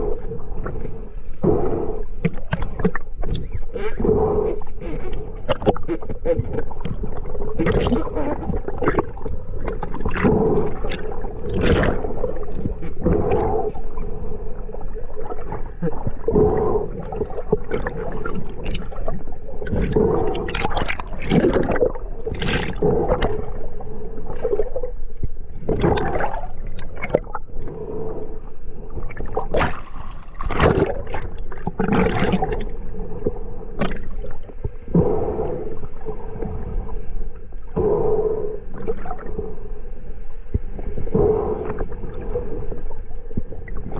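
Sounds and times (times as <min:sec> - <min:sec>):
steady low hum: 0:00.0 - 0:43.9
underwater gurgling and bubbling: 0:00.0 - 0:43.9.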